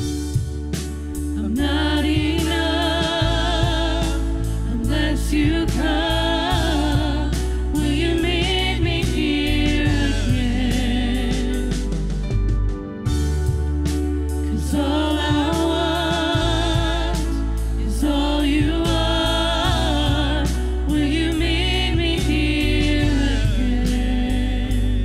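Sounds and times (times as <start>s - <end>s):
bass: 0.0s - 25.0s
keyboard: 0.0s - 25.0s
piano: 0.0s - 25.0s
steady drum beat: 0.0s - 25.0s
singers with vibrato: 1.4s - 12.0s, 14.5s - 25.0s.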